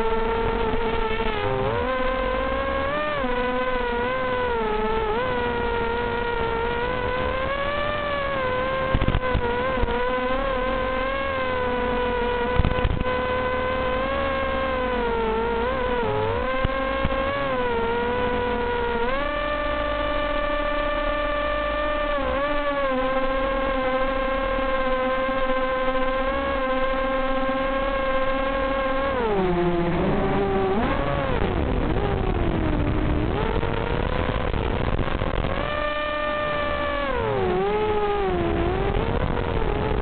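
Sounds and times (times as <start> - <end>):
drone motors and propellers whining: 0.0 - 40.0.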